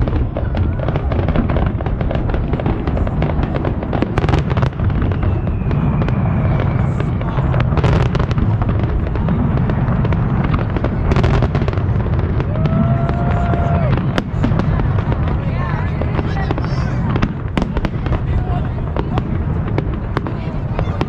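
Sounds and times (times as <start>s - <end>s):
fireworks booms: 0.0s - 21.0s
fireworks crackles and bangs: 0.0s - 21.0s.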